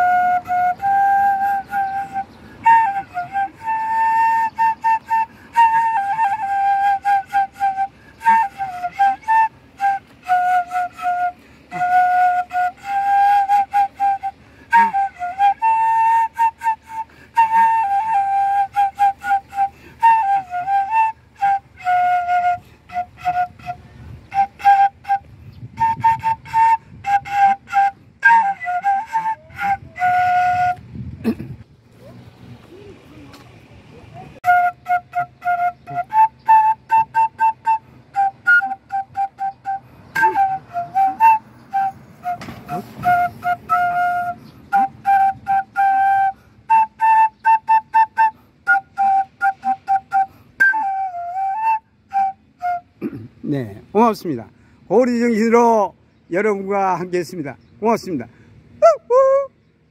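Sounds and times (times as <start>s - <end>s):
solo flute melody: 0.0s - 31.3s, 34.1s - 55.9s, 58.7s - 59.9s.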